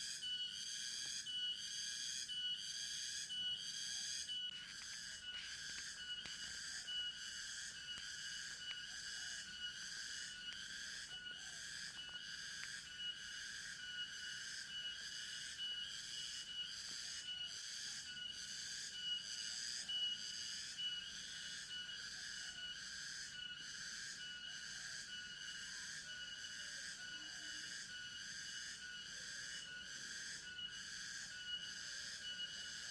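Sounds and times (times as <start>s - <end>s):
insect chorus pulsing drone: 0.0s - 32.9s
thin whistling tone: 0.0s - 32.9s.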